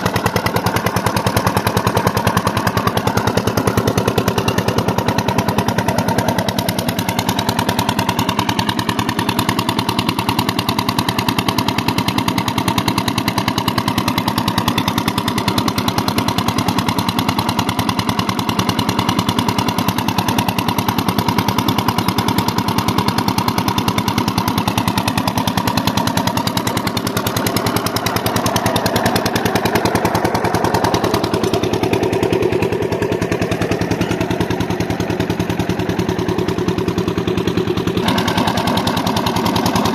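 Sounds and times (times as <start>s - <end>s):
diesel pump engine chugging: 0.0s - 39.9s.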